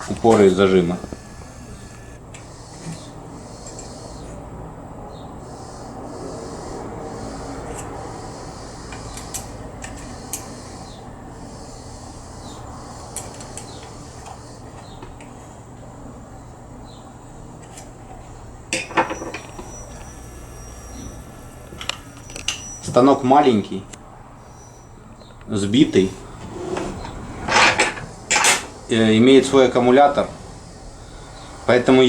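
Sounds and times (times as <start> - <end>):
faint steady hum: 0.0 - 26.4.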